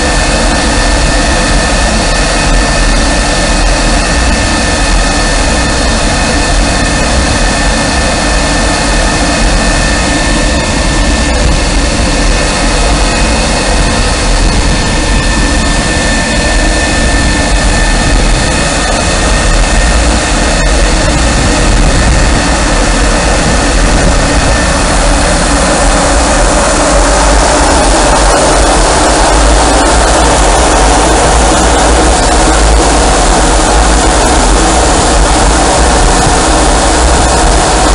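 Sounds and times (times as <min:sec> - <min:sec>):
jet engines roaring and whining: 0:00.0 - 0:37.9.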